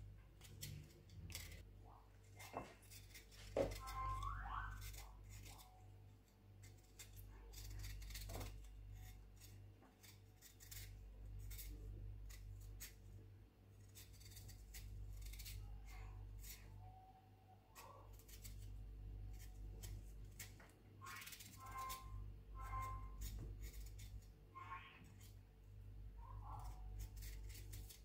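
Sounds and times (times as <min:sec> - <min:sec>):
low steady hum: 0:00.0 - 0:28.0
knife scraping tuber skin: 0:00.4 - 0:13.1, 0:13.8 - 0:16.8, 0:17.7 - 0:25.4, 0:26.2 - 0:28.0.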